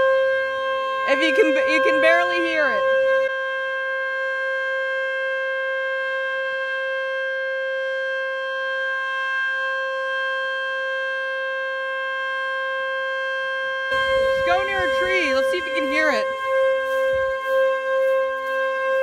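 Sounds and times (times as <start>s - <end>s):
electronic warning siren: 0.0s - 19.0s.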